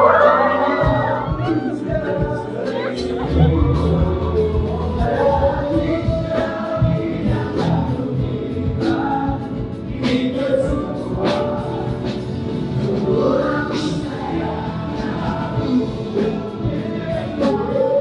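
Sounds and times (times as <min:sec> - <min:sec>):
men and women singing: 0:00.0 - 0:18.0
musical accompaniment: 0:00.0 - 0:18.0.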